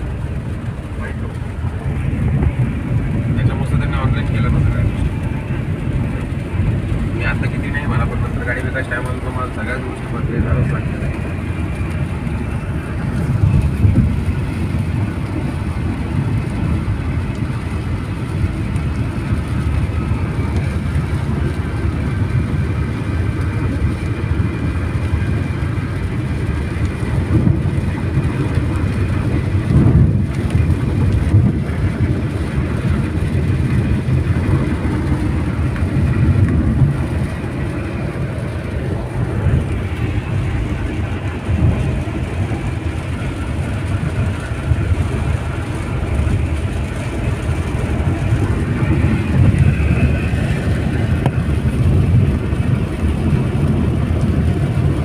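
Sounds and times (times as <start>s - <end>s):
road and tyre noise on wet road: 0.0s - 55.0s.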